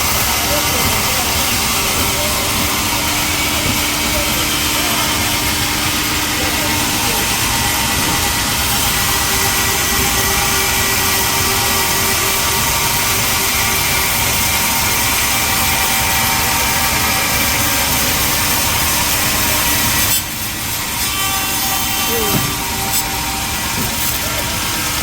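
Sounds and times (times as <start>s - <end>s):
sawmill machinery whine and drone: 0.0s - 25.0s.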